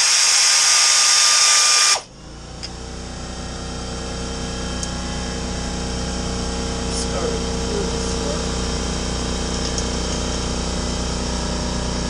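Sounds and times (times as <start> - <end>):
power tool running: 0.0 - 12.0
low mechanical hum: 1.8 - 12.0.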